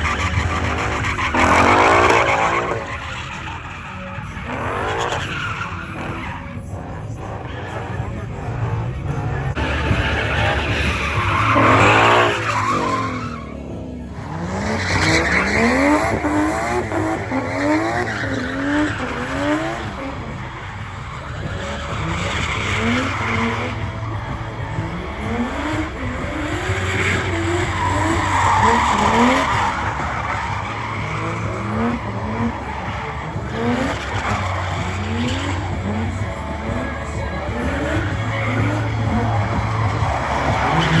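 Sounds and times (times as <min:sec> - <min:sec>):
engine revving hard: 0:00.0 - 0:41.0
tires squealing in a burnout: 0:00.0 - 0:41.0.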